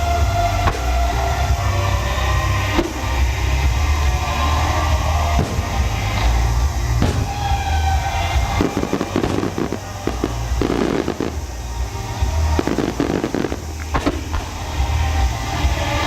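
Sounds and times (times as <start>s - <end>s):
fireworks bursting and crackling: 0.0s - 16.0s
loud music: 0.0s - 16.0s.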